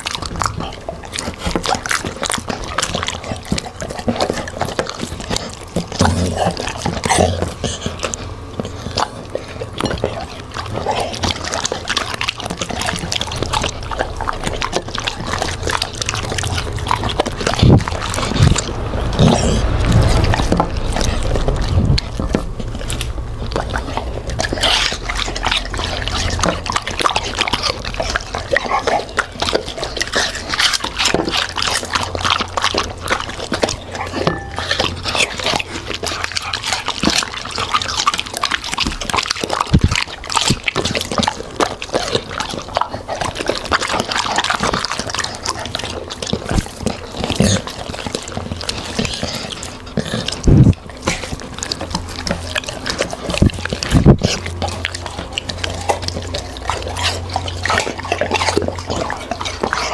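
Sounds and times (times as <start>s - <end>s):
dogs crunching and slurping: 0.0s - 59.9s.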